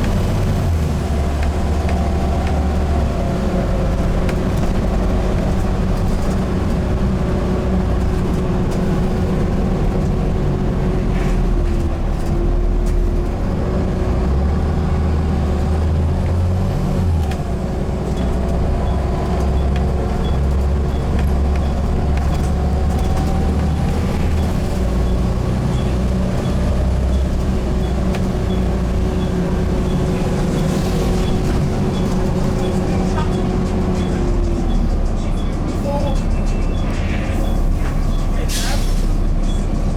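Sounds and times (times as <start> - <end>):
bus diesel engine under load: 0.0 - 39.9.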